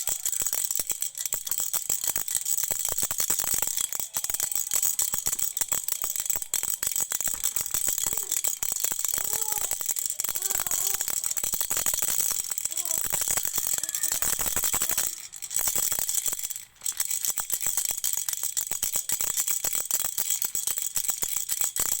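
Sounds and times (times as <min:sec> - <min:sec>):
toy rattle shaken: 0:00.0 - 0:22.0.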